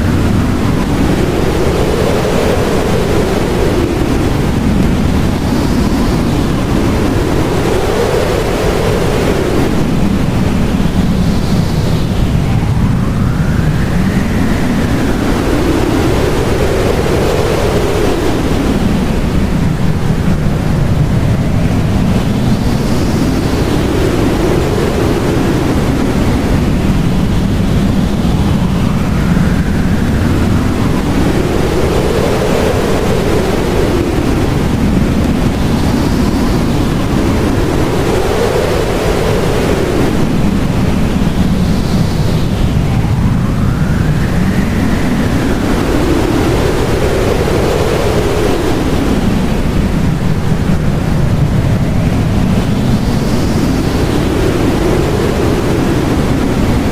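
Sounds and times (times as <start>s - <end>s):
howling blizzard wind: 0.0s - 56.9s.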